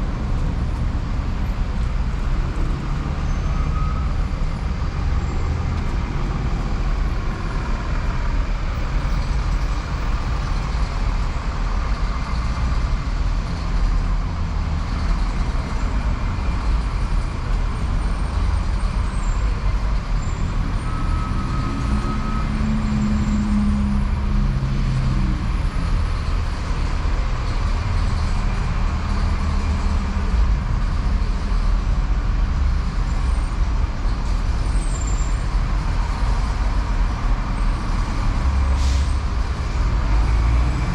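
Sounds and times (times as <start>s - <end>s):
passing motor vehicles rumbling: 0.0s - 40.9s.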